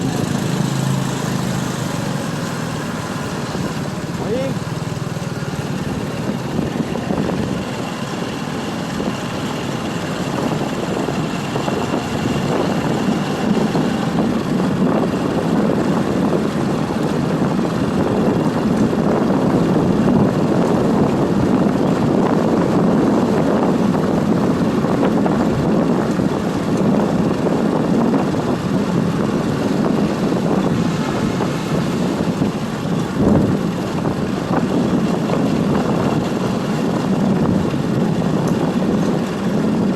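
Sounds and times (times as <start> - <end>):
motorbike engine rumble: 0.0 - 39.9
wind buffeting microphone: 0.0 - 39.9.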